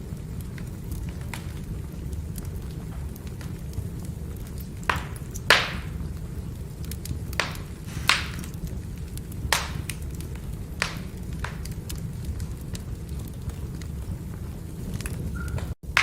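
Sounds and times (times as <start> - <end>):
fire rumbling: 0.0 - 16.0
firewood crackling pops: 0.0 - 16.0.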